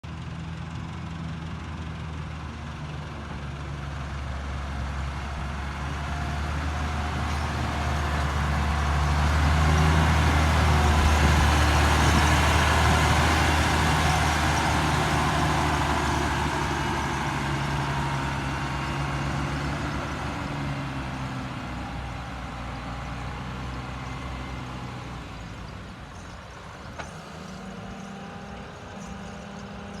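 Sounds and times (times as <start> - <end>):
diesel truck engine running: 0.1 - 30.0.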